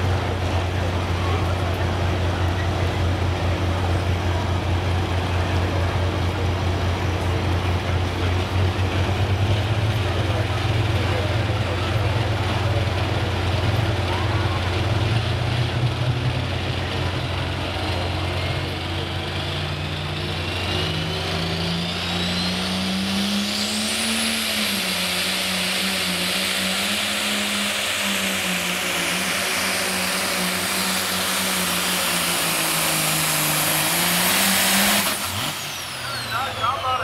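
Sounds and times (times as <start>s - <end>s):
tractor engine running hard: 0.0s - 37.0s.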